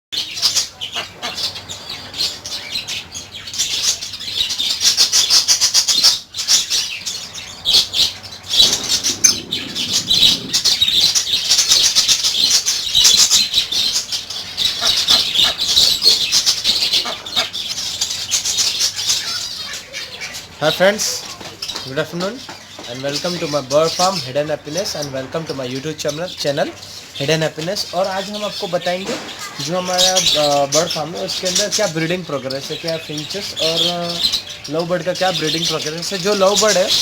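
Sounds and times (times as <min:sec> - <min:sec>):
small birds chirping together: 0:00.1 - 0:37.0.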